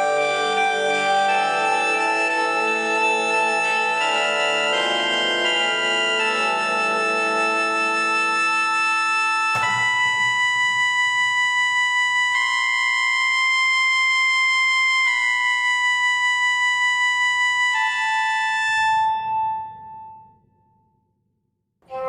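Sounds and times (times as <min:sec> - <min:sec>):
slow music of long held notes: 0:00.0 - 0:21.1.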